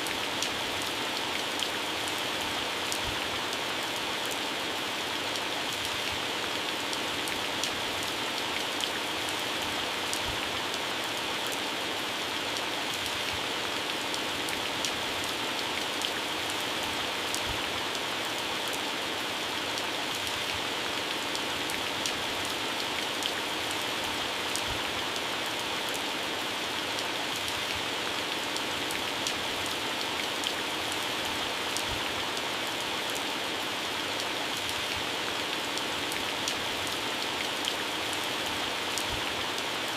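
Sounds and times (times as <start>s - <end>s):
heavy rain on plants: 0.0s - 39.9s.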